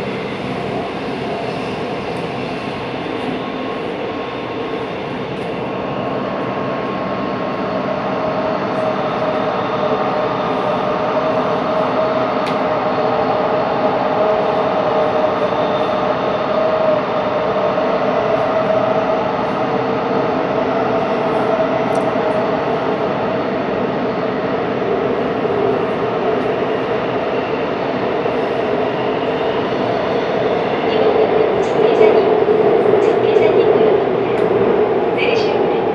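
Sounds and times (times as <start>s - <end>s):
wheels rumbling on rail: 0.0s - 35.9s.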